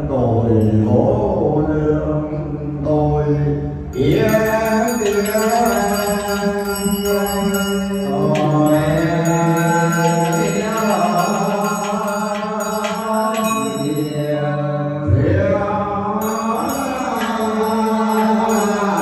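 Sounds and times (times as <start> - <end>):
man chanting into microphone: 0.0 - 19.0.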